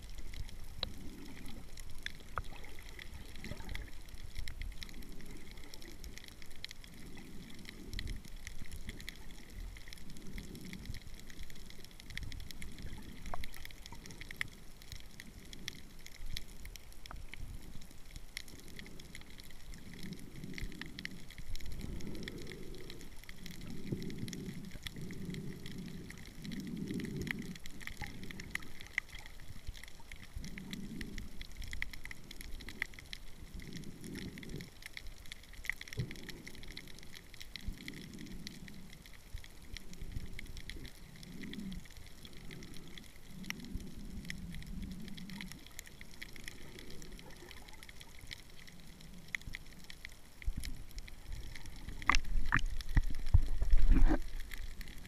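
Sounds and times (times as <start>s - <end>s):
faint crackle: 0.0s - 55.0s
underwater water swishes: 0.0s - 55.0s.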